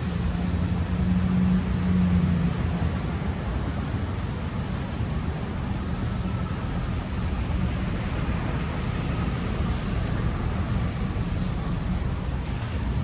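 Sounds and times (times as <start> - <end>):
van engine and road noise: 0.0 - 13.0.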